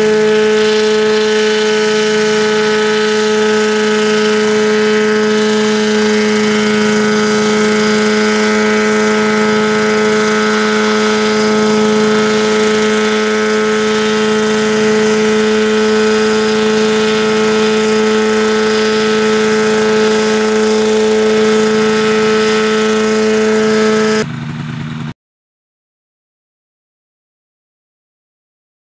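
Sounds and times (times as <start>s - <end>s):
helicopter engine and rotors droning: 0.0s - 25.1s.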